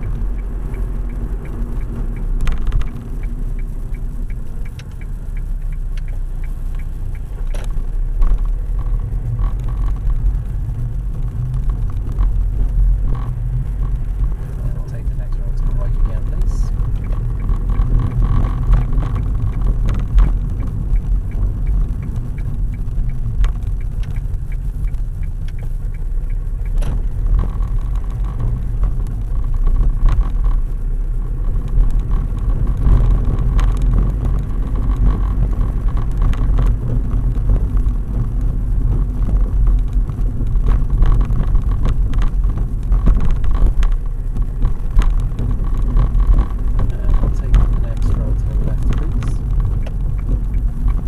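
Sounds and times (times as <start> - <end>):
car engine and tyre rumble: 0.0 - 51.0
faint regular ticking: 0.0 - 51.0.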